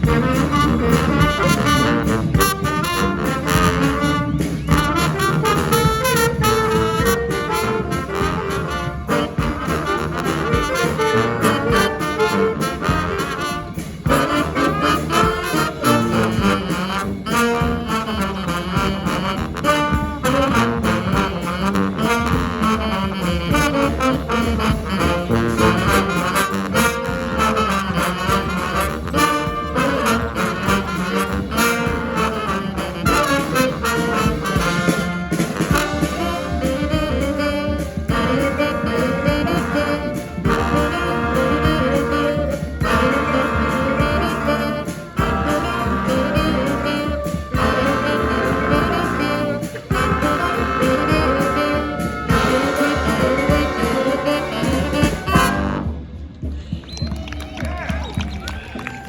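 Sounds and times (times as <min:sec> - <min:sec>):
brass band playing: 0:00.0 - 0:56.6.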